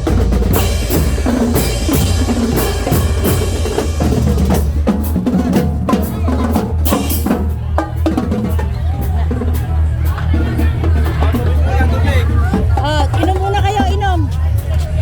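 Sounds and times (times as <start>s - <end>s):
snare drums beating: 0.0s - 14.4s
bass drum beating: 0.0s - 15.0s
loud low rumble: 0.0s - 15.0s.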